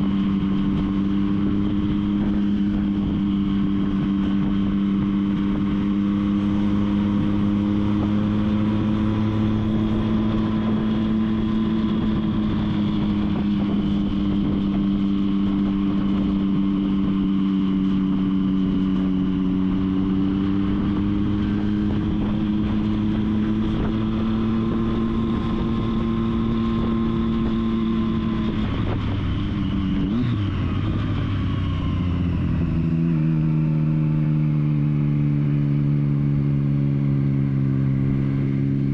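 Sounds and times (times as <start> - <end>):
motorcycle engine cruising: 0.0 - 38.9
road and wind noise: 0.0 - 38.9.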